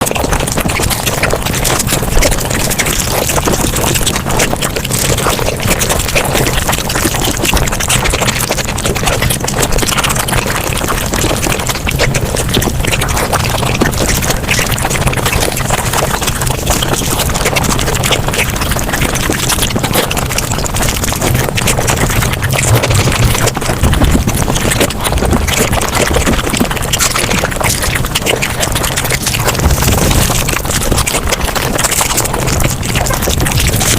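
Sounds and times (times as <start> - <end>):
sped-up chewing and slurping: 0.0 - 33.9.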